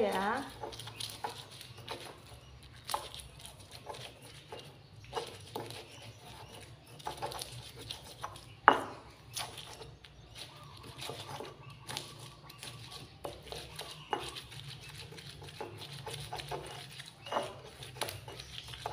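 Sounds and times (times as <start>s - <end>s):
stone pestle grinding in mortar: 0.0s - 18.9s.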